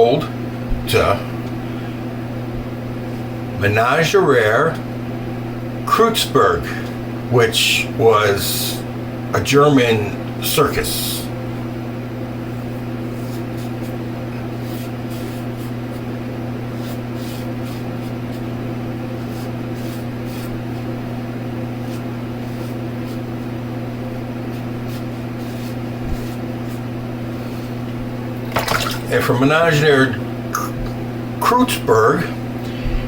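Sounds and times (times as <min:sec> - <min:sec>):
fan humming: 0:00.0 - 0:33.0.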